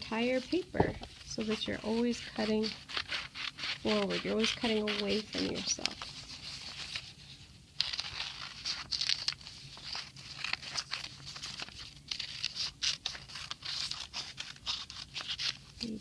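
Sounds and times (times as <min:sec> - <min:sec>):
scissors cutting paper: 0:01.3 - 0:07.0, 0:07.8 - 0:16.0.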